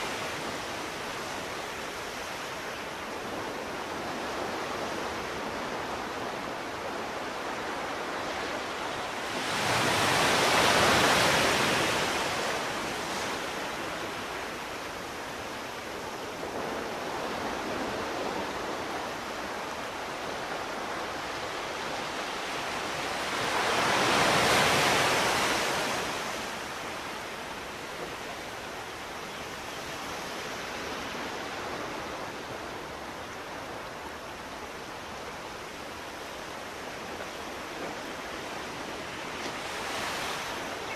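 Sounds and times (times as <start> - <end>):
sea waves breaking on shore: 0.0 - 40.9
steady wash of surf: 0.0 - 40.9.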